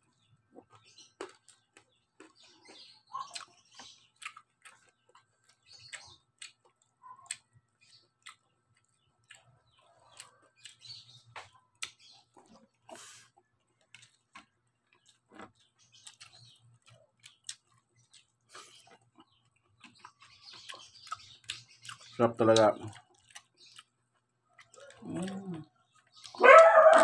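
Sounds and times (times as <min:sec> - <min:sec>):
crunchy food being chewed: 0:00.0 - 0:27.0.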